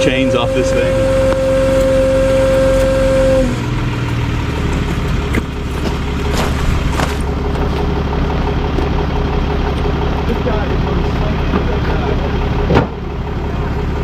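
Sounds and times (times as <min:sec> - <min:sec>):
steady whine: 0:00.0 - 0:14.0
truck engine idling: 0:00.0 - 0:14.0.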